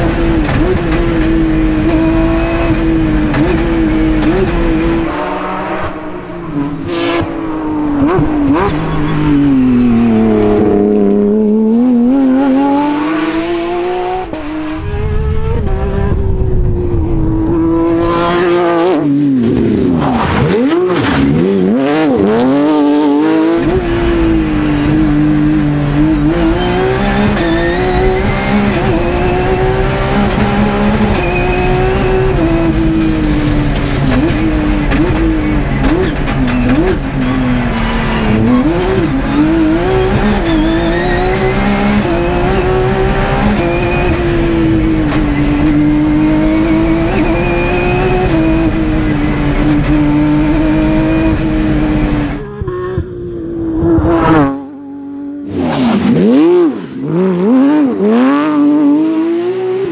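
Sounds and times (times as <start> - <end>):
rally car engine revving hard: 0.0 - 59.9.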